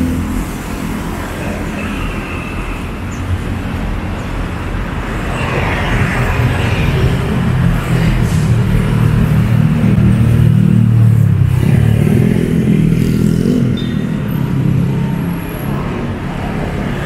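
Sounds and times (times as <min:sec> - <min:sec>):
car and motorcycle engines: 0:00.0 - 0:17.0.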